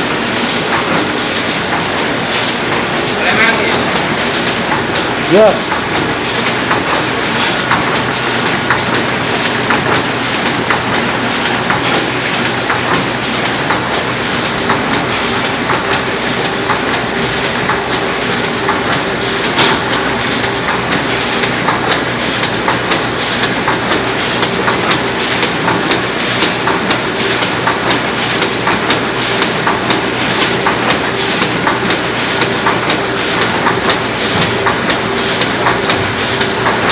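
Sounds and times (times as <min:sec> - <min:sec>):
printing press clattering: 0:00.0 - 0:36.9.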